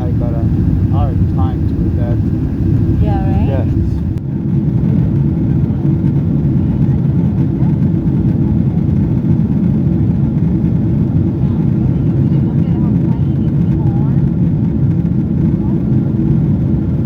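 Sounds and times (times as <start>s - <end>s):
airflow over fuselage: 0.0s - 17.0s
jet engine drone: 0.0s - 17.0s.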